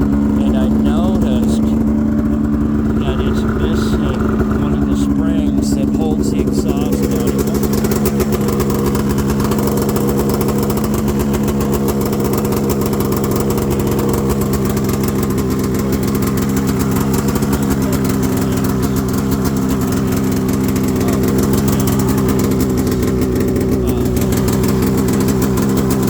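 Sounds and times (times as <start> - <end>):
snowmobile engine idling: 0.0 - 26.0.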